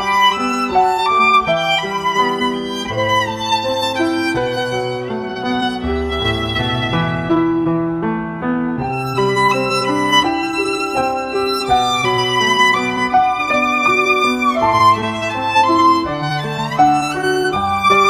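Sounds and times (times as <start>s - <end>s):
violin melody: 0.0s - 18.0s.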